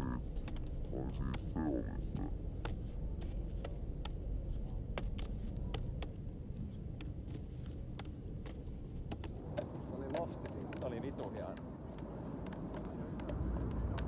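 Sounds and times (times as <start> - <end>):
low steady rumble: 0.0 - 14.0
juggling clubs slapping into hands: 0.3 - 14.0.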